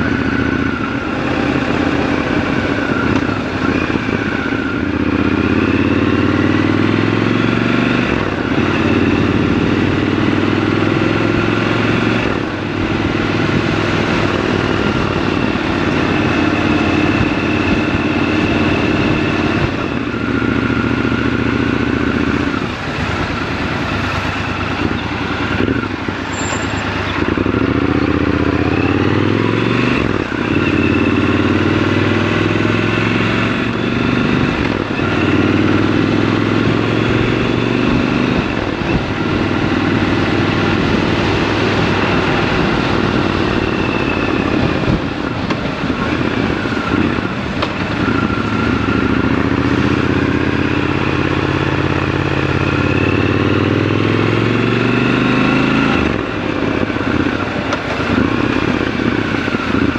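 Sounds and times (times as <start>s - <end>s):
motorcycle engine running: 0.0s - 59.9s
road and wind rush: 0.0s - 59.9s.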